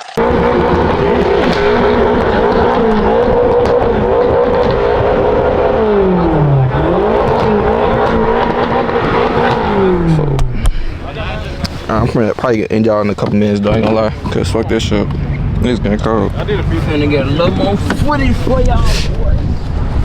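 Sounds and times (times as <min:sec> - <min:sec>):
car engine revving: 0:00.2 - 0:20.0.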